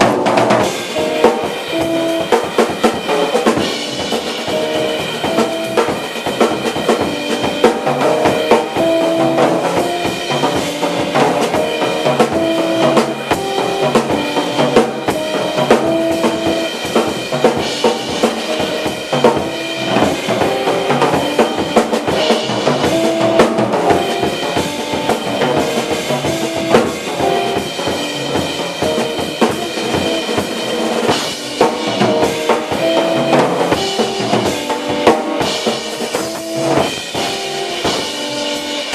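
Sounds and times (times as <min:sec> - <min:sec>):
busy drum kit: 0:00.0 - 0:38.9
jazz group playing: 0:00.0 - 0:38.9.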